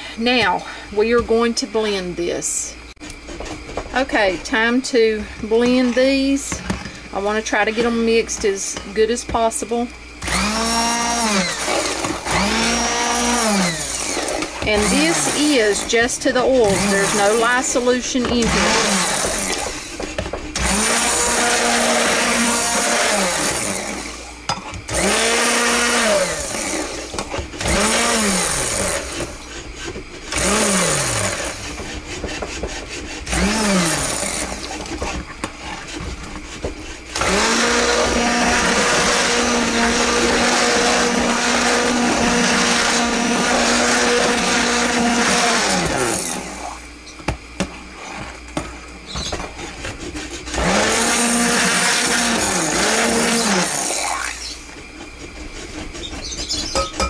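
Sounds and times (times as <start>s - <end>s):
stick blender whirring: 0.0s - 57.0s.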